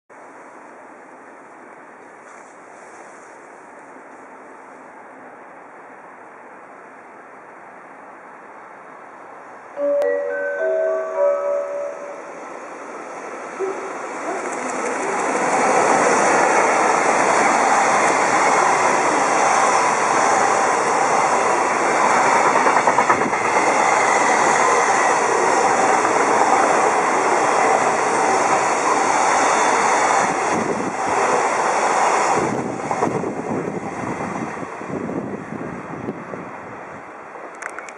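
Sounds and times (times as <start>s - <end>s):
freight train passing: 0.2s - 37.9s.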